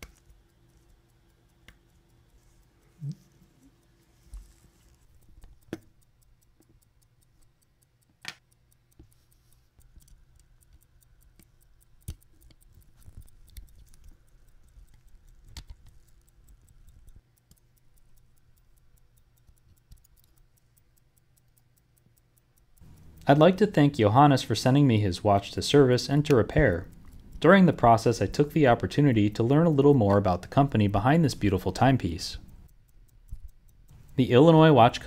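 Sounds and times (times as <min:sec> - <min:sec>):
pocket watch ticking: 0:00.0 - 0:35.0.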